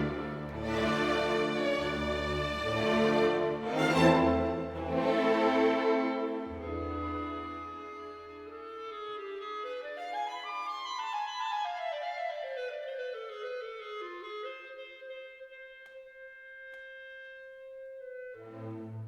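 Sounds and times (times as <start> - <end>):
woodwind melody: 0.0 - 19.0.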